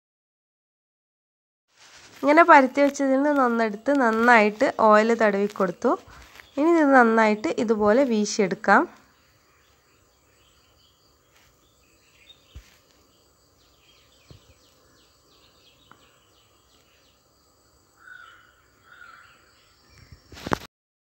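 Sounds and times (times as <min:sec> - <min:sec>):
faint insects chirping: 0:01.8 - 0:20.7
birds chirping: 0:02.1 - 0:20.6.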